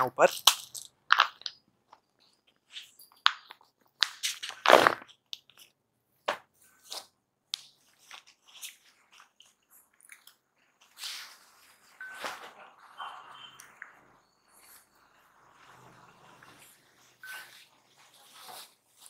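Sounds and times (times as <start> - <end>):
suit fabric rustling and crinkling: 1.1 - 19.0.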